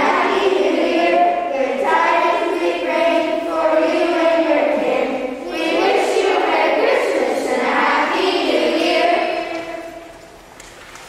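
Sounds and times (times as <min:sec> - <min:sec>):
children's choir singing: 0:00.0 - 0:10.4.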